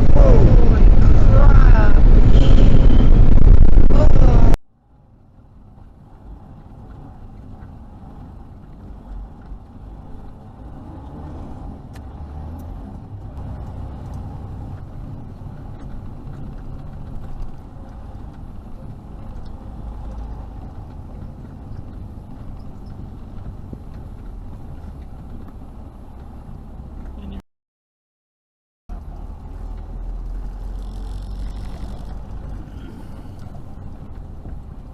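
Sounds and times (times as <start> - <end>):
car road and engine noise: 0.0 - 27.4, 28.9 - 34.9.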